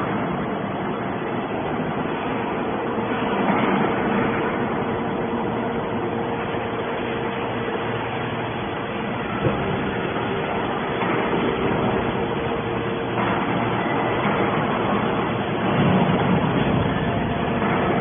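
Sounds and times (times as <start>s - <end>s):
baler machine hum with whine: 0.0s - 18.0s.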